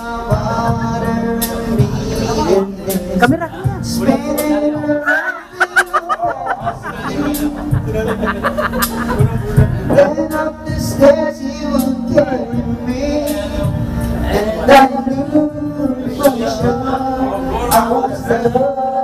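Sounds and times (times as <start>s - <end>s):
backing track through speakers: 0.0s - 19.0s
man singing into microphone: 0.0s - 19.0s.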